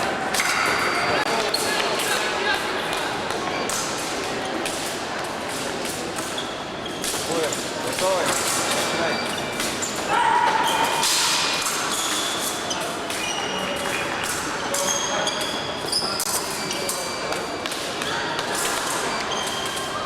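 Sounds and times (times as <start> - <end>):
faint murmur of voices: 0.0 - 20.0.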